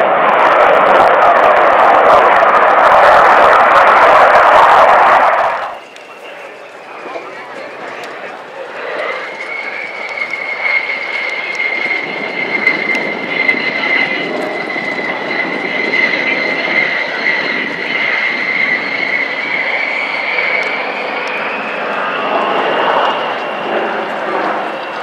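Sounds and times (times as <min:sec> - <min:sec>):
jet aircraft flying past: 0:00.0 - 0:25.0.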